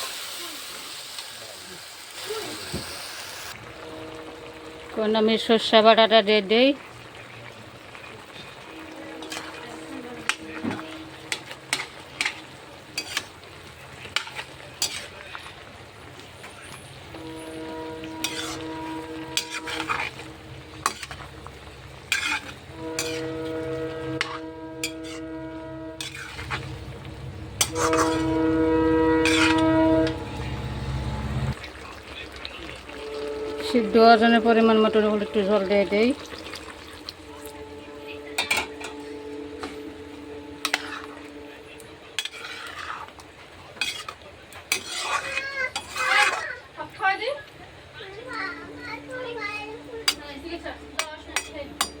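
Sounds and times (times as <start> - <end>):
light sizzle of frying: 0.0 - 52.0
spatula scraping a pan: 7.8 - 31.6, 33.1 - 47.4, 48.3 - 52.0.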